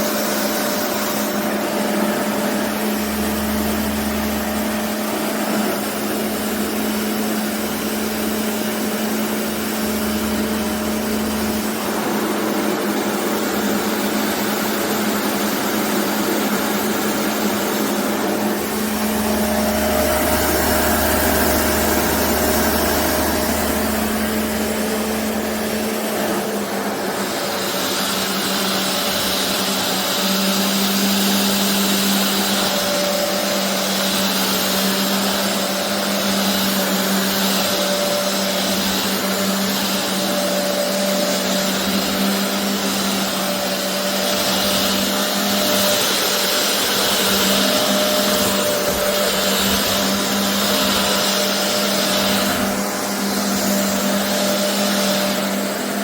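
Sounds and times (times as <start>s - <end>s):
carpet cleaner motor hum: 0.0s - 56.0s
suction rushing: 0.0s - 56.0s.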